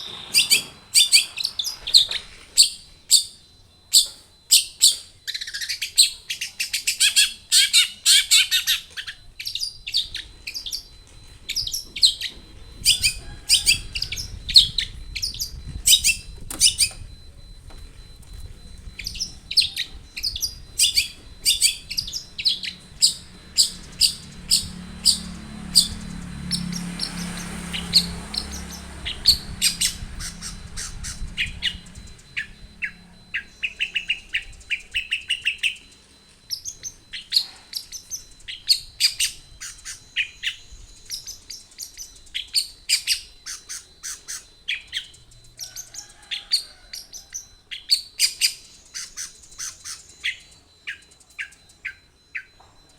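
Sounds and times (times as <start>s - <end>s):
shrike singing: 0.0s - 52.9s.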